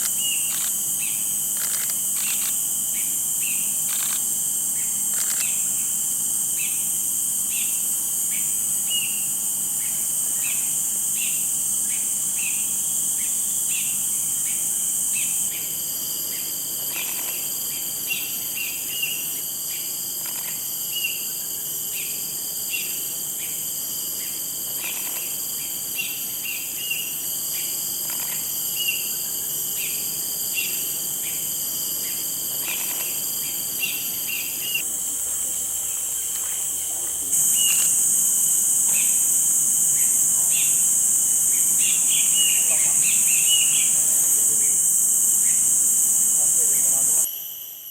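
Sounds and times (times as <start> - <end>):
high-pitched insect drone: 0.0 - 47.9
steady insect tone: 0.0 - 47.9.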